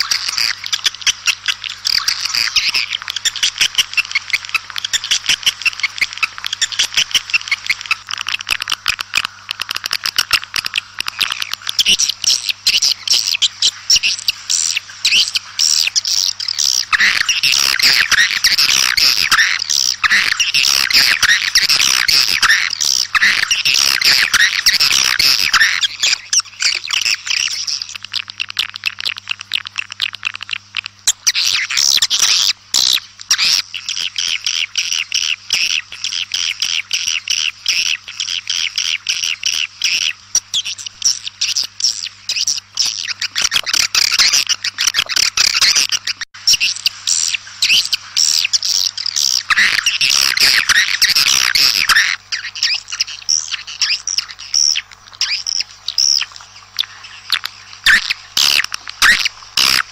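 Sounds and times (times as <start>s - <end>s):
swiftlets twittering: 0.0s - 59.9s.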